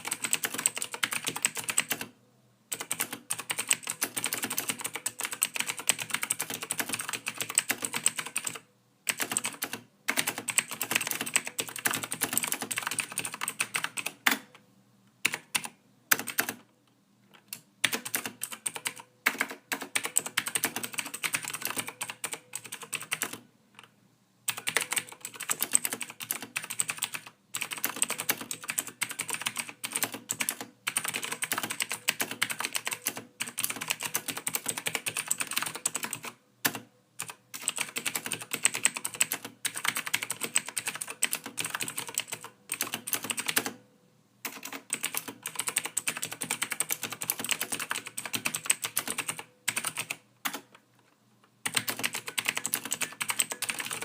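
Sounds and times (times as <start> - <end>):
computer keyboard typing: 0.0 - 14.6, 15.2 - 16.7, 17.3 - 23.9, 24.5 - 43.8, 44.4 - 50.8, 51.6 - 54.0.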